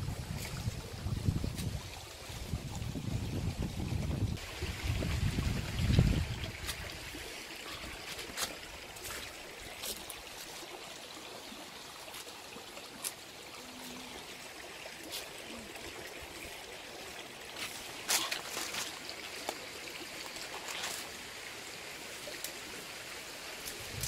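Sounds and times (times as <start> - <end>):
stream running over stones: 0.0 - 24.0.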